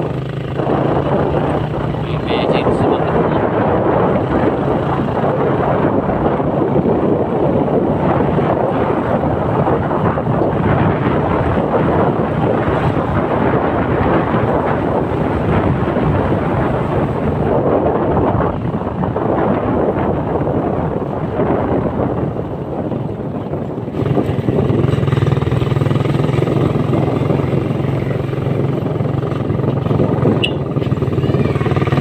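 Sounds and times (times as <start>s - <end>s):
motorcycle engine running: 0.0s - 32.0s
wind buffeting microphone: 0.0s - 32.0s.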